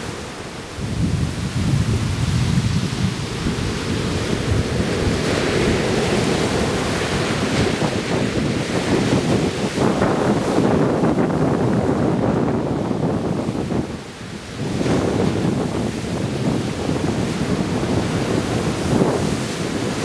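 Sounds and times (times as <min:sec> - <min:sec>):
ocean surf breaking: 0:00.0 - 0:20.0
wind rumbling on microphone: 0:00.0 - 0:20.0.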